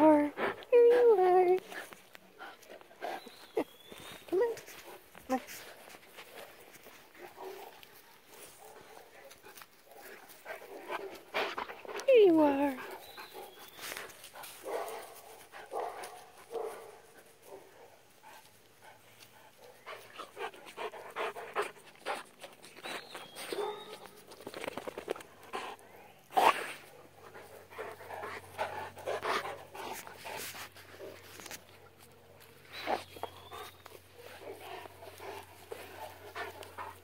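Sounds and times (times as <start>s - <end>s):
dogs panting: 0.0s - 37.0s
scuffling on grass: 0.2s - 21.0s, 26.6s - 37.0s.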